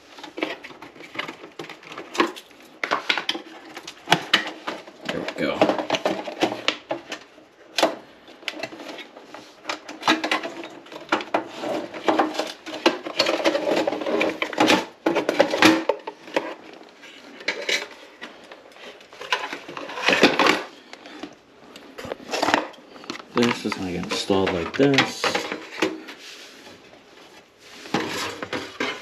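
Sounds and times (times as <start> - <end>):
plastic parts clattering and scraping: 0.0 - 29.0.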